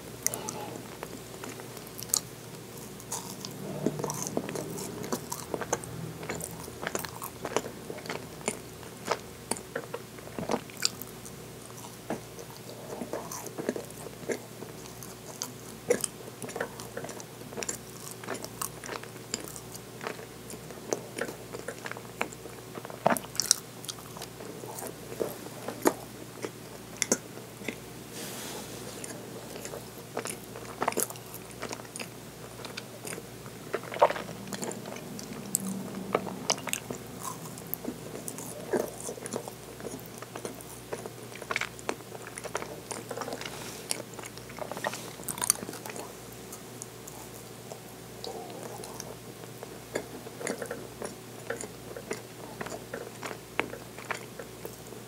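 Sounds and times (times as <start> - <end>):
biting and chewing crunches: 0.2 - 27.8, 29.0 - 55.0.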